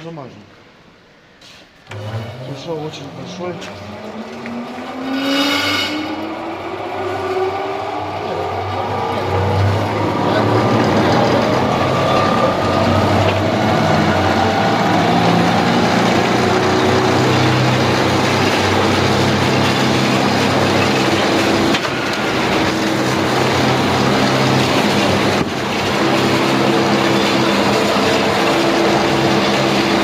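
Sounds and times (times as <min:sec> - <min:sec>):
engine-driven log splitter running: 0:01.9 - 0:05.2, 0:05.8 - 0:30.0.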